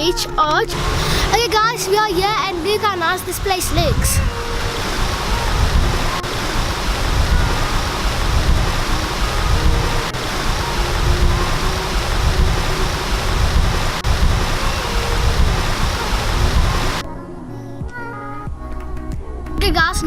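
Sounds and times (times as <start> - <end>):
wind rumbling on microphone: 0.0 - 17.0
flowing water: 0.7 - 17.0.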